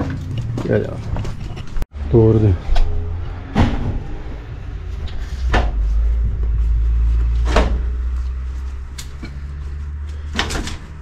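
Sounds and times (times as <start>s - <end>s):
steady low rumble: 0.1s - 10.3s.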